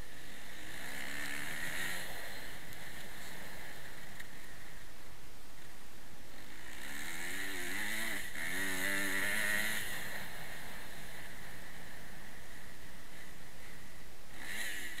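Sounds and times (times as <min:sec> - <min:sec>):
motocross bike engine revving: 0:00.0 - 0:04.8, 0:06.3 - 0:15.0.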